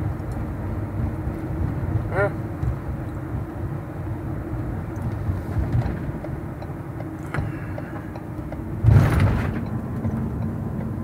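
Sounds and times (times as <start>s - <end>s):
road and engine rumble in cab: 0.0s - 11.0s.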